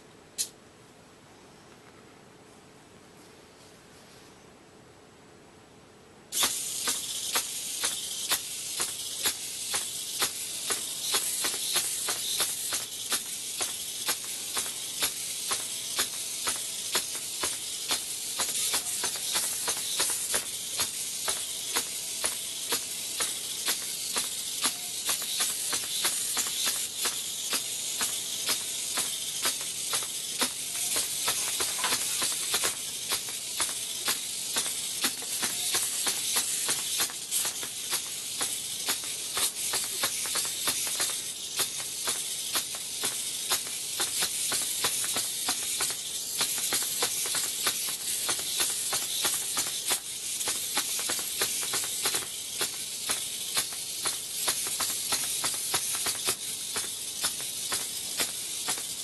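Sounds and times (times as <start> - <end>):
robot legs clicking: 6.3 - 59.0
servos whirring: 6.3 - 59.0.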